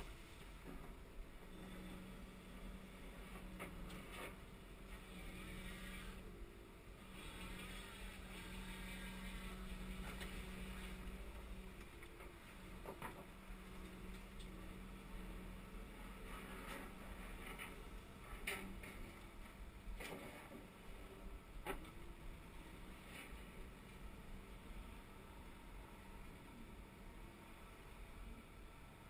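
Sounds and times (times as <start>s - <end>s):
excavator engine and hydraulics hum: 0.0s - 29.0s.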